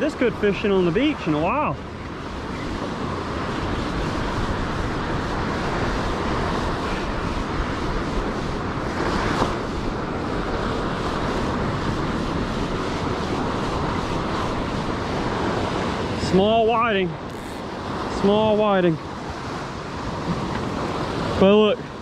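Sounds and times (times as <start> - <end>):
wind on microphone: 0.0 - 22.0.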